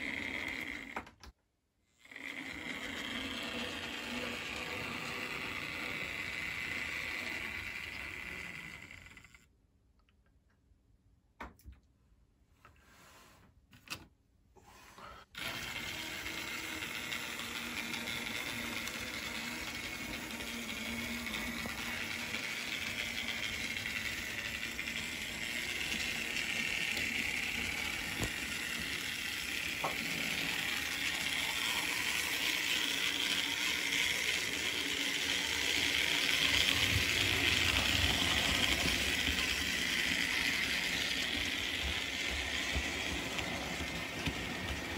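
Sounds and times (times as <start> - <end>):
model train motor whirring: 0.0 - 1.2, 2.0 - 9.5, 15.2 - 44.9.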